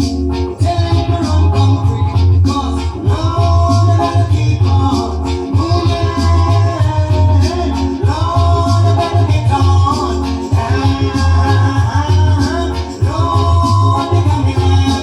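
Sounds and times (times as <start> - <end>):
reggae song: 0.0 - 15.0.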